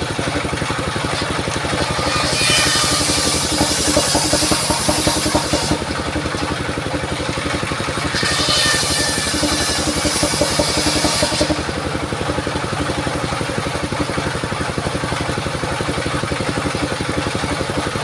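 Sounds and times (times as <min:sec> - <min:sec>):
saw blade rasping through log: 0:00.0 - 0:15.3
sawmill engine running: 0:00.0 - 0:18.0.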